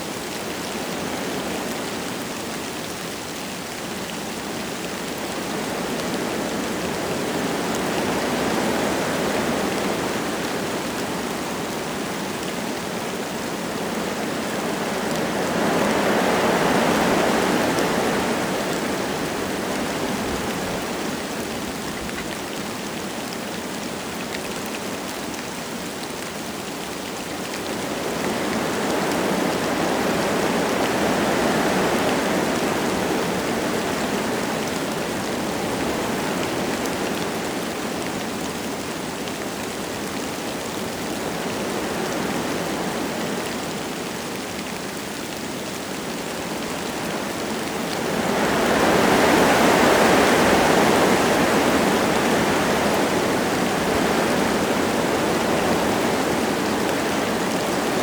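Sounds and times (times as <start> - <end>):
light rain falling: 0.0 - 58.0
wind gusting through trees: 0.0 - 58.0.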